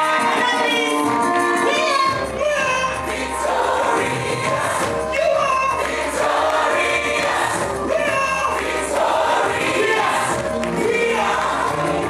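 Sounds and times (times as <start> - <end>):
band playing: 0.0 - 12.0
group singing gospel: 0.0 - 12.0.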